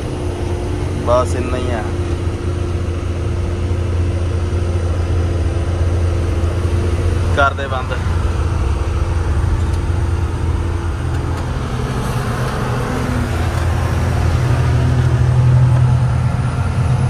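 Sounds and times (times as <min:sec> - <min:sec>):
road noise: 0:00.0 - 0:17.0
truck engine under load: 0:00.0 - 0:17.0.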